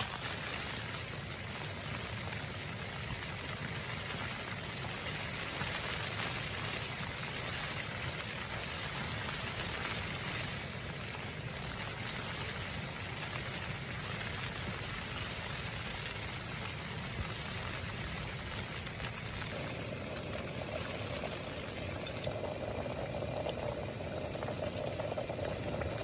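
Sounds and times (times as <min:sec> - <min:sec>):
steady hiss with dense patter: 0:00.0 - 0:26.0.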